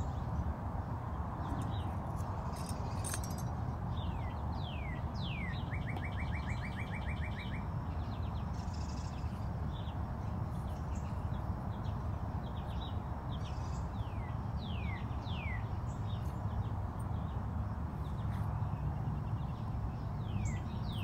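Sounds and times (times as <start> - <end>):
small birds chirping: 1.4 - 21.0.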